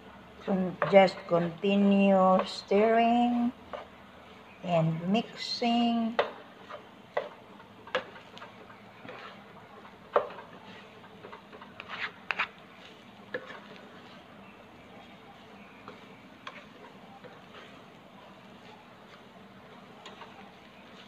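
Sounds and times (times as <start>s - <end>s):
spatulas scraping and tapping pan: 0.4s - 21.0s.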